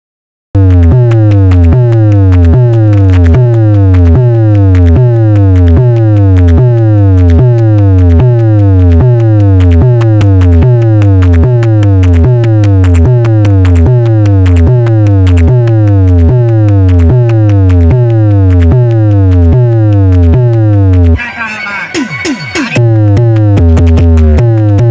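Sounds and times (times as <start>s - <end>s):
deep bass note: 0.6s - 21.2s, 22.8s - 24.9s.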